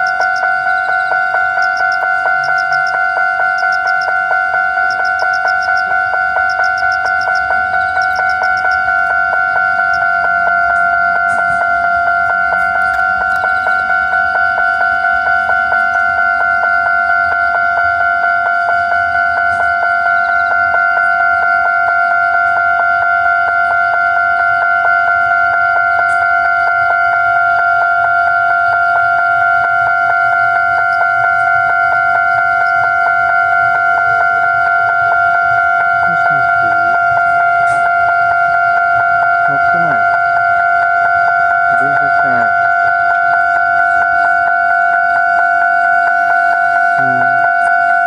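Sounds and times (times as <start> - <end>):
level crossing warning bell: 0.0 - 48.0.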